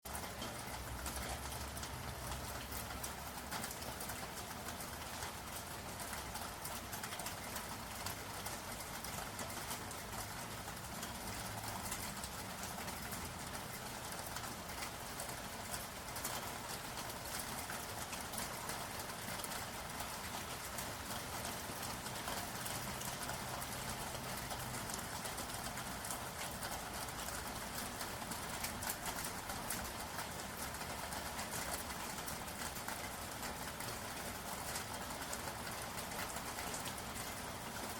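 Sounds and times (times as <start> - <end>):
steady rainfall with ticking drops: 0.0 - 37.9.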